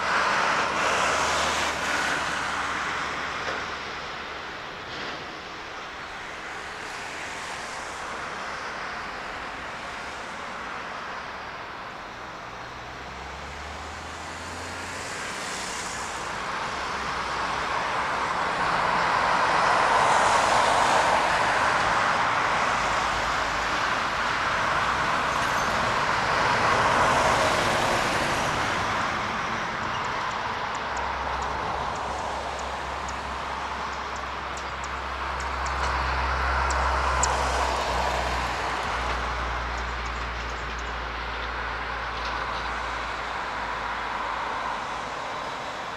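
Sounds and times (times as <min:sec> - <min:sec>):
jet engines passing by: 0:00.0 - 0:45.9.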